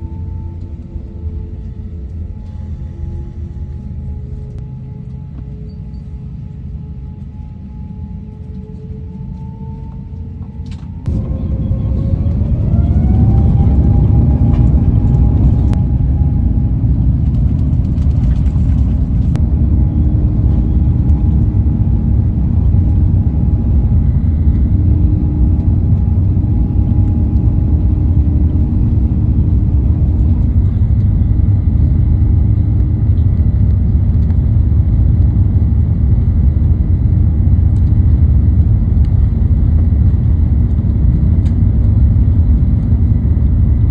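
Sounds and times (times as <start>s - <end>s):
jet engine whine: 0.0s - 43.9s
jet engines roaring: 0.0s - 43.9s.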